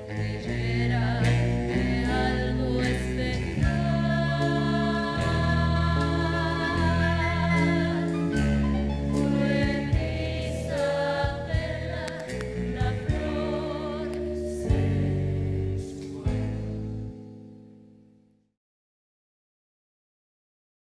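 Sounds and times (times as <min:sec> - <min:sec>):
choir singing over chords: 0:00.0 - 0:17.4.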